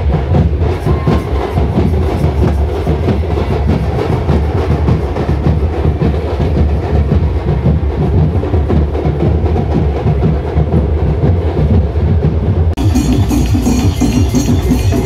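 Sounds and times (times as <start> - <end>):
loud dense drumming: 0.0 - 15.0.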